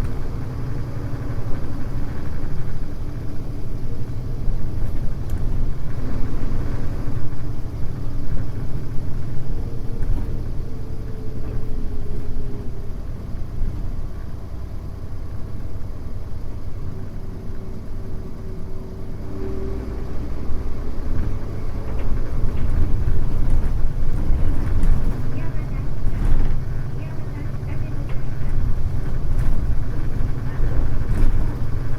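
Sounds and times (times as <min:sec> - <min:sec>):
bus diesel engine rumbling: 0:00.0 - 0:31.9.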